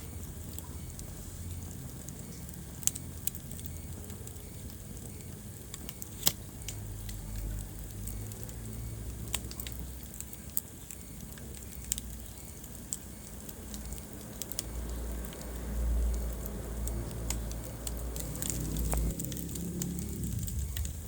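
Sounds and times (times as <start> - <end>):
fire crackling and popping: 0.0 - 21.0
low rumble of fire: 0.0 - 21.0.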